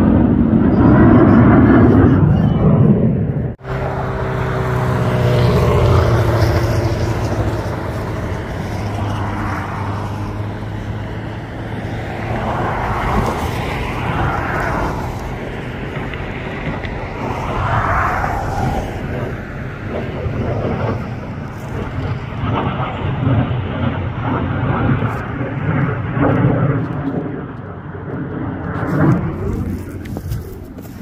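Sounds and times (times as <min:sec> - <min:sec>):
jet flying overhead: 0:00.0 - 0:31.0.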